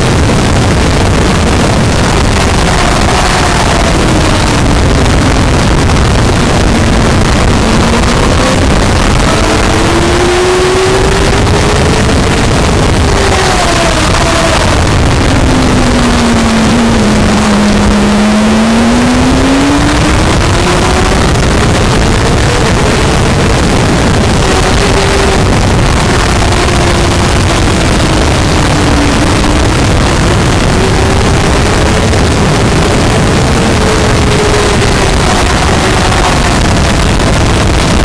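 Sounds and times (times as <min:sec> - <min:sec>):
motorcycle engine revving: 0:00.0 - 0:38.0
wind rushing over microphone: 0:00.0 - 0:38.0.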